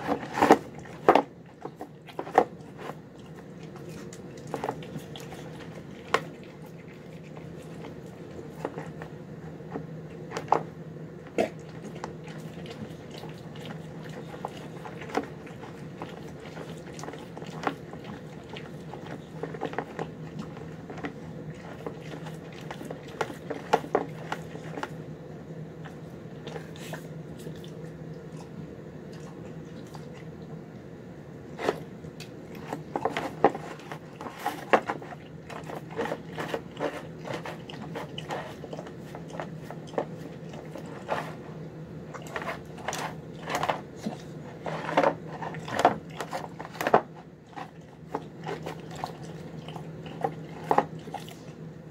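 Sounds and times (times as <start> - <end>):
dog eating wet food: 0.0 - 51.9.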